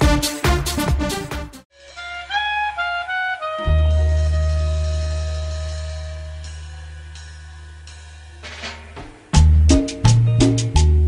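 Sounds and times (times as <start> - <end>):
latin music with bass and percussion: 0.0 - 11.0.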